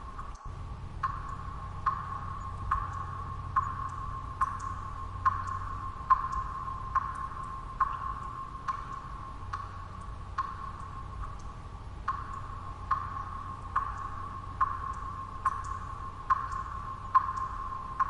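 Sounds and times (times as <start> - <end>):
white noise: 0.0 - 18.0
water drops plinking: 0.2 - 18.0.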